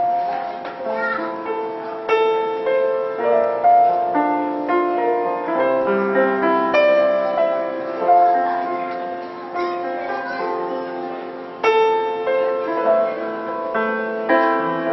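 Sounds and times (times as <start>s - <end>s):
slow piano melody: 0.0s - 14.9s.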